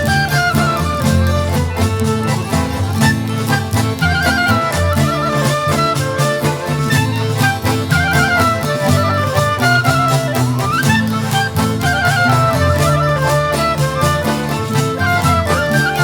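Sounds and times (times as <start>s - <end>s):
folk dance music: 0.0s - 16.0s.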